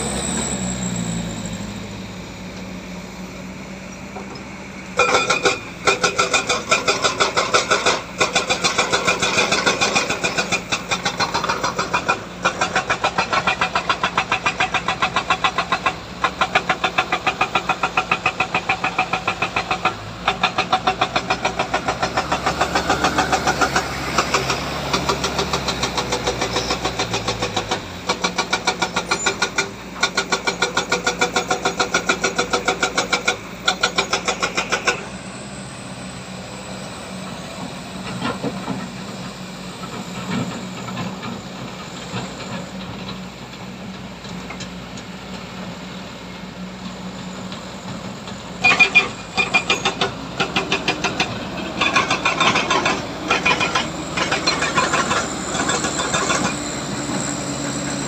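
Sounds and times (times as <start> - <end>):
diesel machinery pulsing clatter: 0.0 - 58.0
engine running steadily: 0.0 - 58.0.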